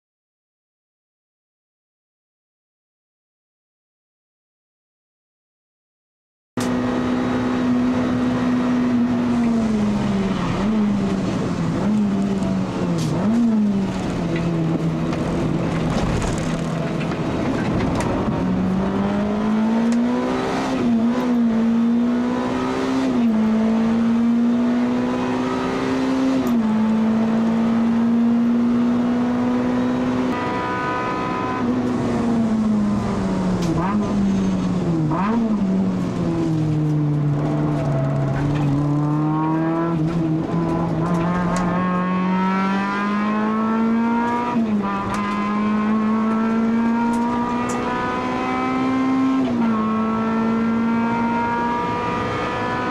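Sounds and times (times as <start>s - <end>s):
car engine at full throttle: 6.6s - 52.9s.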